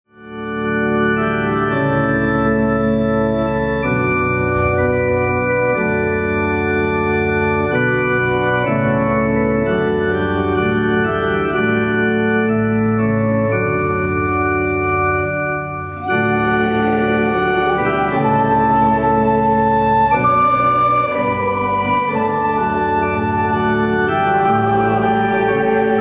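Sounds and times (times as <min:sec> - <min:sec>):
organ playing sustained hymn chords: 0:00.1 - 0:26.0.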